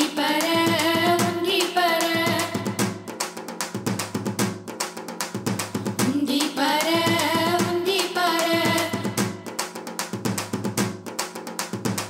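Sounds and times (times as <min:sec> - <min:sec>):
fast drum strokes: 0:00.0 - 0:12.0.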